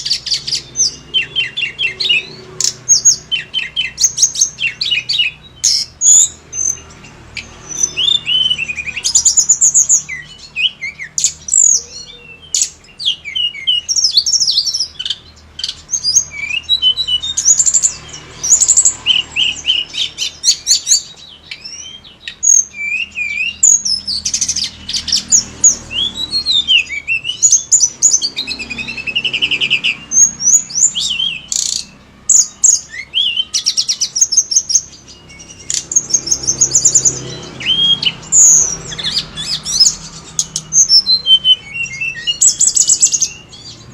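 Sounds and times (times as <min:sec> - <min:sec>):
songbird singing chirps and trills: 0:00.0 - 0:43.9.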